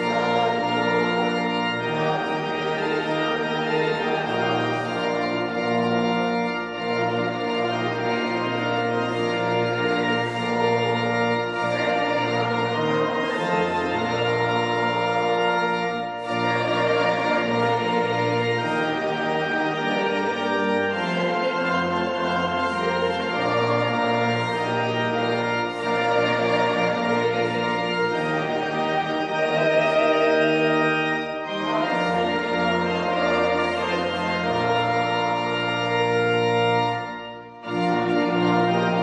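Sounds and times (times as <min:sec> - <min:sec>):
church organ playing hymn chords: 0:00.0 - 0:39.0.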